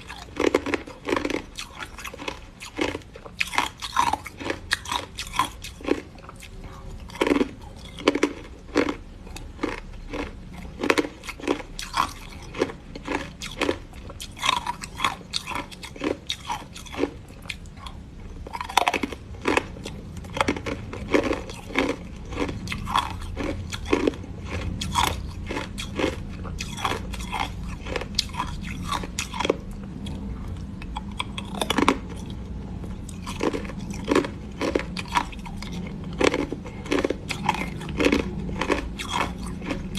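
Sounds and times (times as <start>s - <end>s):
biting and chewing ice: 0.0s - 39.9s.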